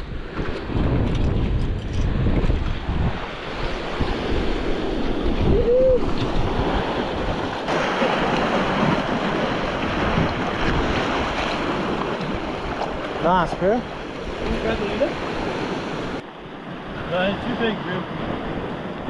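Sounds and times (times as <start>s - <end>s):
wind buffeting microphone: 0.0s - 19.0s
surf washing over rocks: 2.1s - 19.0s.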